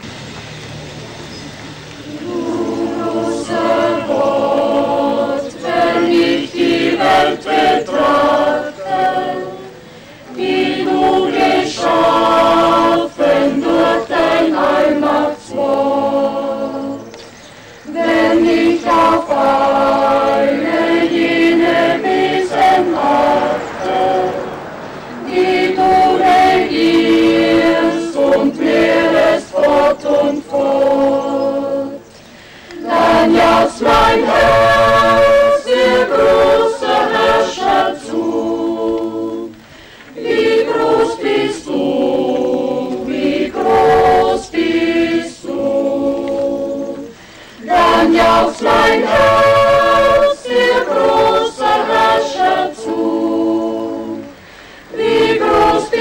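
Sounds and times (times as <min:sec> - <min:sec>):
mixed choir singing unaccompanied: 0:02.0 - 0:56.0.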